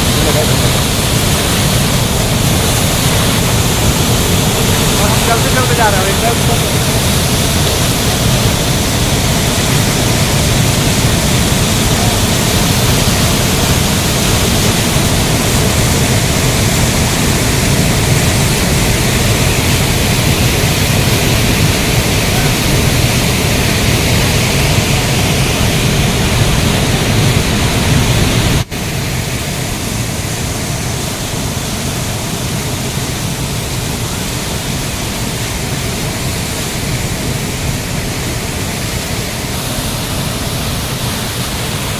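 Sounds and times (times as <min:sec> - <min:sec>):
large waterfall rushing: 0:00.0 - 0:41.9.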